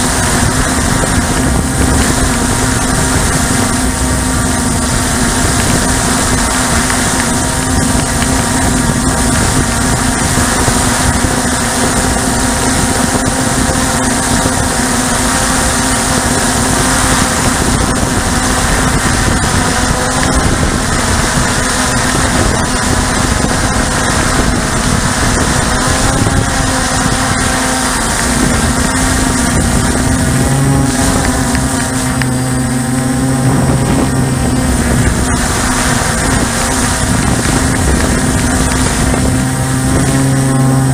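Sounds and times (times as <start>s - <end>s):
aircraft motors whining: 0.0s - 40.9s
propeller rushing hiss: 0.0s - 40.9s.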